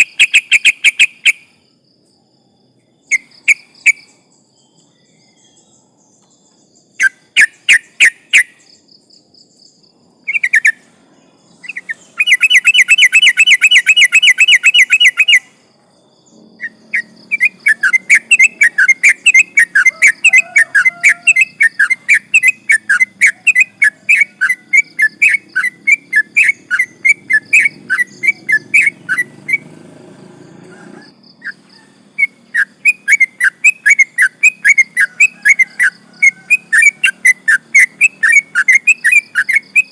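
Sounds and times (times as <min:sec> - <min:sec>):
bird singing whistled chirps: 0:00.0 - 0:01.8, 0:02.4 - 0:29.8, 0:30.6 - 0:39.9.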